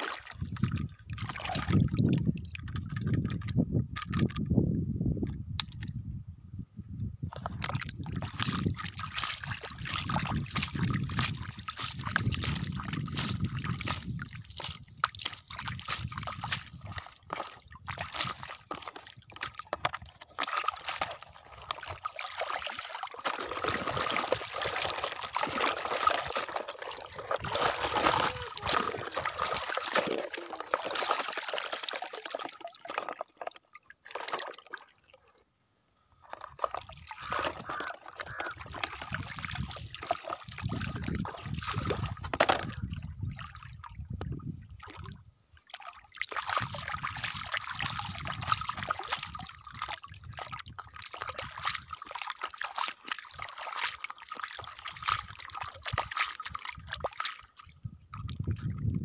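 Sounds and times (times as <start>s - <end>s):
small splashes: 0.0s - 4.2s, 7.3s - 35.4s, 36.3s - 58.8s
shallow water sloshing: 0.0s - 4.4s, 7.3s - 35.4s, 36.2s - 59.0s.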